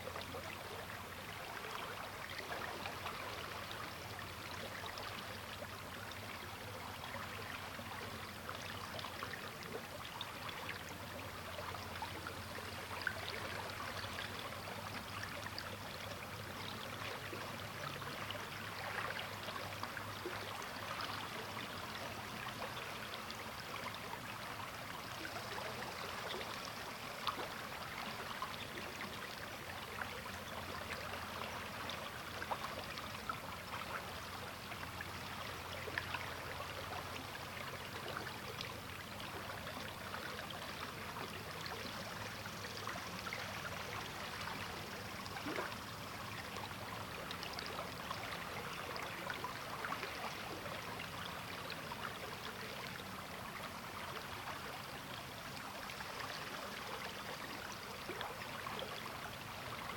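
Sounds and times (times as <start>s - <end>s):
river water babbling over rocks: 0.0s - 59.9s.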